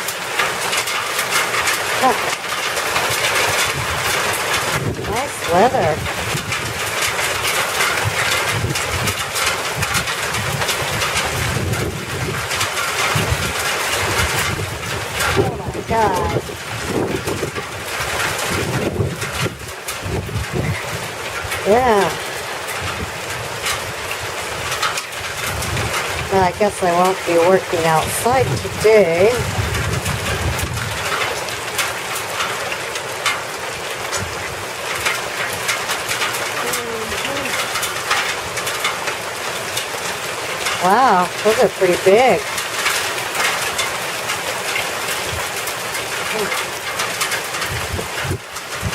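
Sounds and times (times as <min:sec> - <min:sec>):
hail pelting down: 0:00.0 - 0:48.9
wind buffeting microphone: 0:01.6 - 0:32.5, 0:34.0 - 0:48.9.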